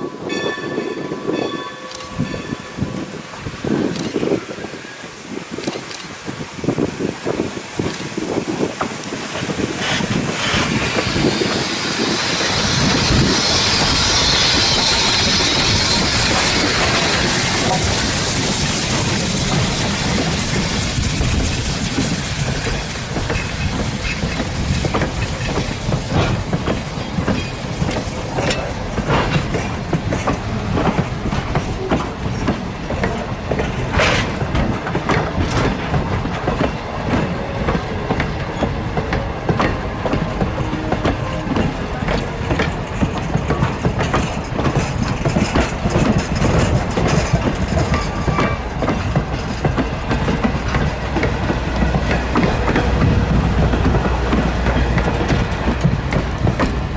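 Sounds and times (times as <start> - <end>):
train rumble: 0.0 - 56.9
train wheels clicking on rails: 0.2 - 56.9.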